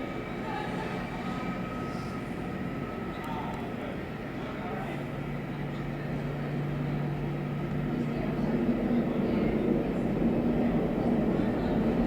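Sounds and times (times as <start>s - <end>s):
jet airliner engines running: 0.0s - 12.0s.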